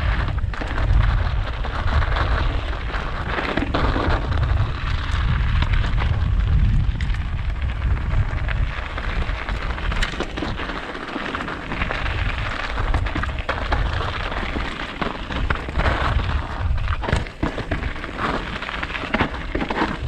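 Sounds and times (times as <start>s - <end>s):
bike rattling on stony trail: 0.0s - 20.0s
wind buffeting microphone: 0.0s - 20.0s.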